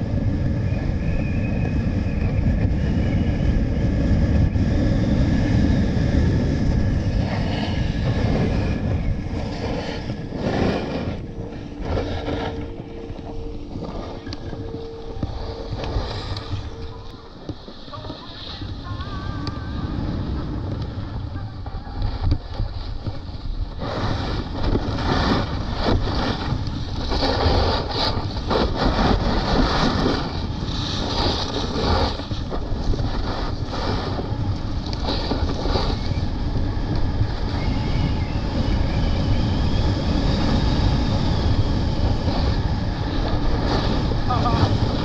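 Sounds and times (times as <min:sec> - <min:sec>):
snowboard scraping over snow: 0:00.0 - 0:45.0
wind buffeting microphone: 0:00.0 - 0:45.0.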